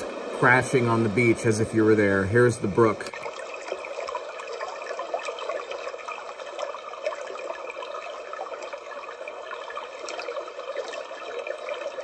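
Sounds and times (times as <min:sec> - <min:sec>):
trickling water from speaker: 0:00.0 - 0:12.0.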